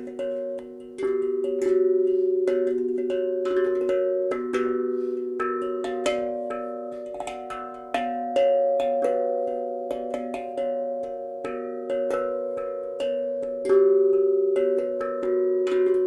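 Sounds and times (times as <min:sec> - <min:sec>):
steel tongue drum melody: 0:00.0 - 0:16.0.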